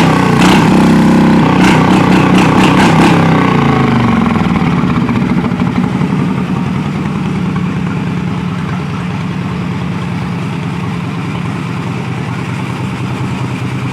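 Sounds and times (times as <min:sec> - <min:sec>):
lawn mower engine idling: 0:00.0 - 0:13.9.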